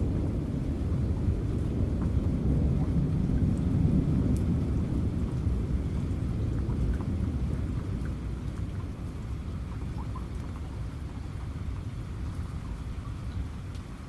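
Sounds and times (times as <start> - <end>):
thunder rumbling: 0.0 - 12.7
steady rain: 0.0 - 14.0
water drips ticking: 0.0 - 14.0.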